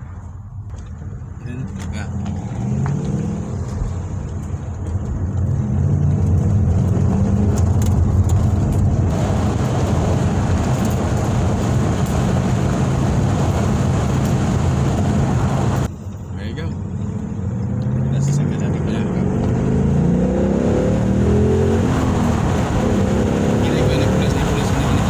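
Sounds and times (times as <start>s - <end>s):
car engine from inside cabin: 0.0s - 25.0s
wind and road noise: 0.0s - 25.0s.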